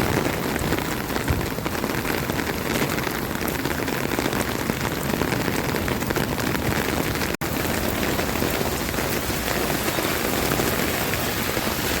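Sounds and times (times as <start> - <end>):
rain on hard surfaces: 0.0 - 12.0.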